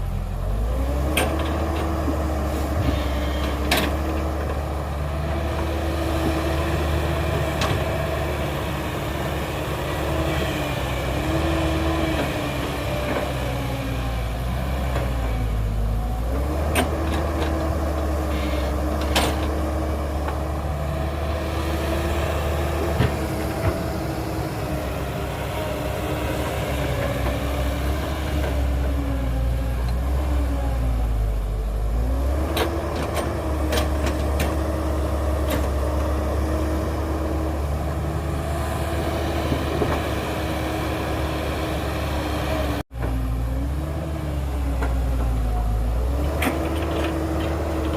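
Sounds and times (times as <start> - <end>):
diesel engine lugging under load: 0.0 - 47.9.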